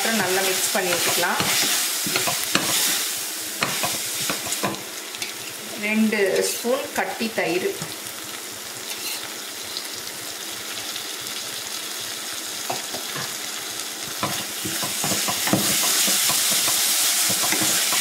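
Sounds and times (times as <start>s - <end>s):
masala sizzling: 0.0s - 18.0s.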